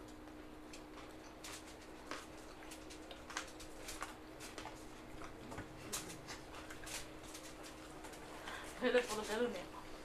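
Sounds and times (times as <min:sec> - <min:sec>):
faint steady hum: 0:00.0 - 0:10.0
people chewing with wet smacks: 0:00.0 - 0:10.0.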